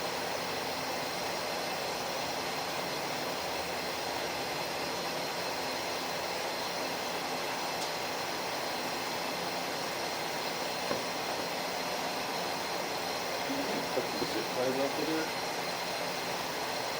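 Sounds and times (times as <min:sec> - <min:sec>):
faint high whine: 0:00.0 - 0:16.9.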